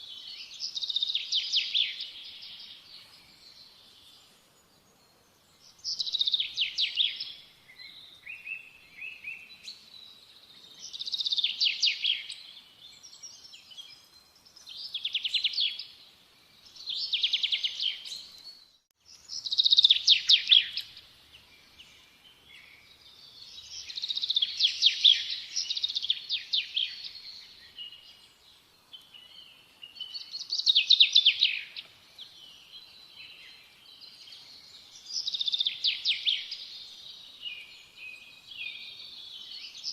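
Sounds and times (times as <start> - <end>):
soft bird twittering: 0.0 - 16.0, 16.6 - 39.9
songbird trills: 0.0 - 39.9.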